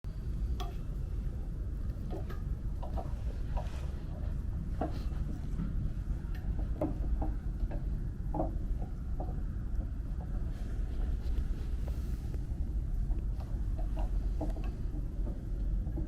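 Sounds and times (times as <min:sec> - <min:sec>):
wind rumbling on microphone: 0:00.1 - 0:16.0.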